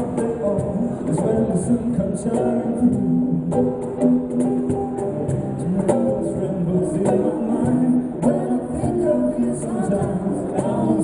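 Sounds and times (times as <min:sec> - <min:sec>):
person singing: 0:00.0 - 0:03.8, 0:05.5 - 0:11.0
cajon beating: 0:00.0 - 0:11.0.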